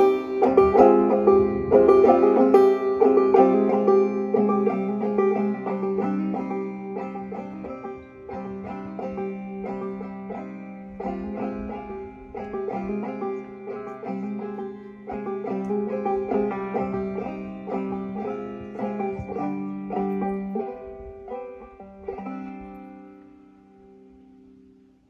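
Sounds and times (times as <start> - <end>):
banjo plucked notes: 0.0 - 25.0.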